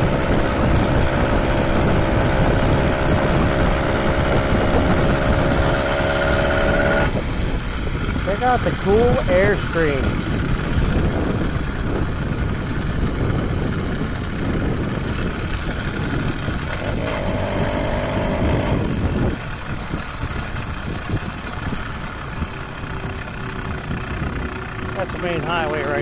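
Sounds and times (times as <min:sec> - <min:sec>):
two-stroke engine running: 0:00.0 - 0:26.0
wind noise on microphone: 0:00.0 - 0:26.0.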